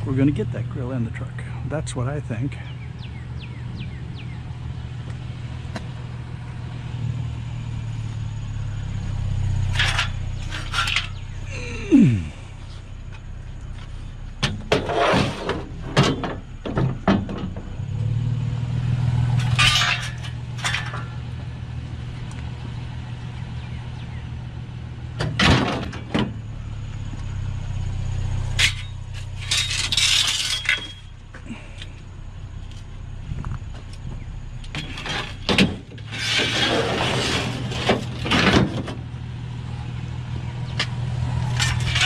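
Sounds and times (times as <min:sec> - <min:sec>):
pickup truck engine running: 0:00.0 - 0:14.7, 0:15.6 - 0:36.1, 0:36.9 - 0:42.0.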